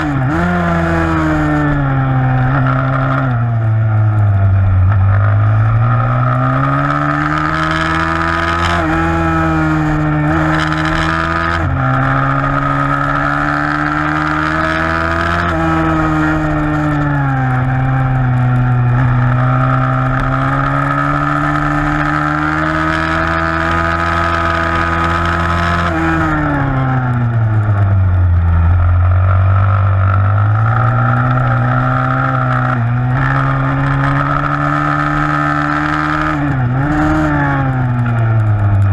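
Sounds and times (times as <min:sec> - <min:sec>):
motorbike engine at high revs: 0:00.0 - 0:38.9.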